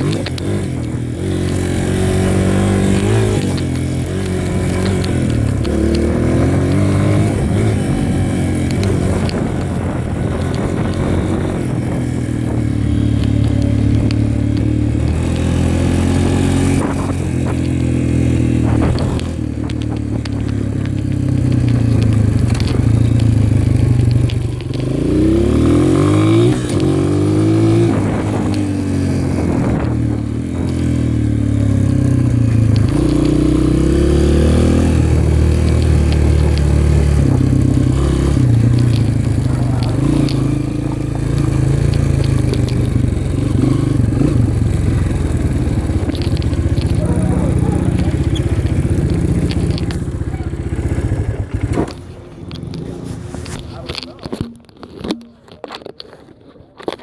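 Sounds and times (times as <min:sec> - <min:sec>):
dirt bike engine revving: 0:00.0 - 0:55.2.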